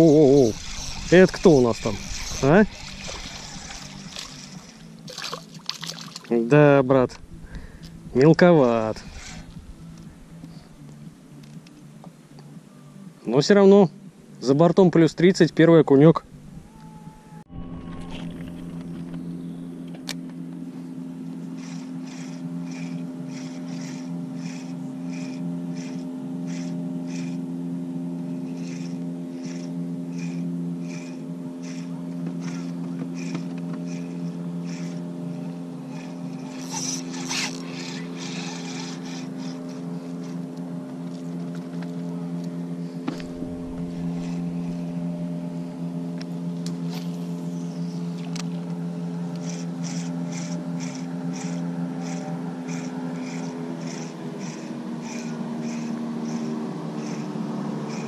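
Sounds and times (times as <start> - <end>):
small boat motor humming: 0.0 - 58.0.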